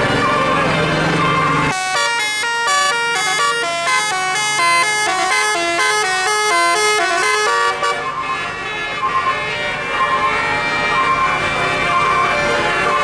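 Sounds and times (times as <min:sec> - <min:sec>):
multi-tone bus horn melody: 0:00.0 - 0:13.0.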